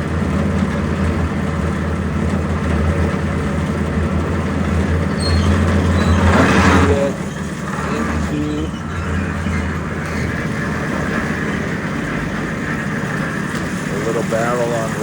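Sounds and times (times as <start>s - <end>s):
concrete mixer running: 0.0s - 15.0s.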